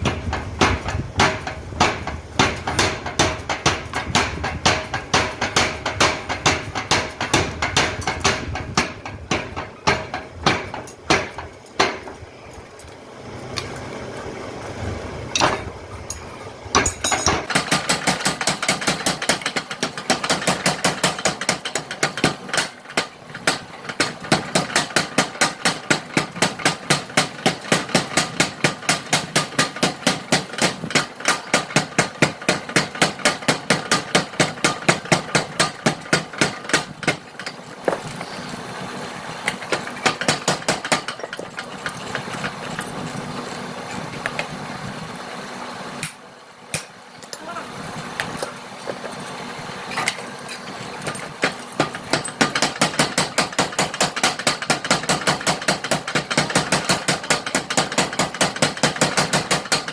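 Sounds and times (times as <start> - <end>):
power hammer striking hot steel: 0.0 - 12.2, 15.3 - 38.4, 39.4 - 42.9, 46.0 - 47.0, 51.0 - 59.9.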